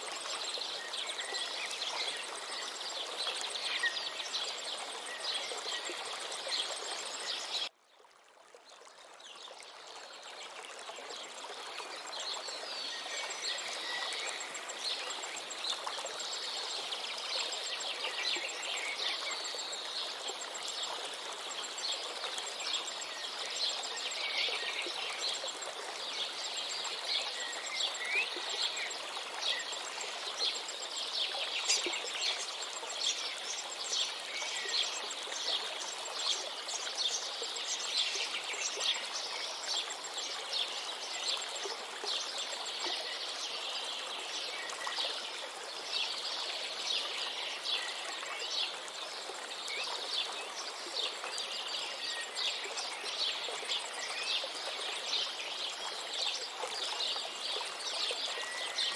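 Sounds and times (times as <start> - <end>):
small songbirds chirping: 0.0 - 7.7, 11.0 - 58.9.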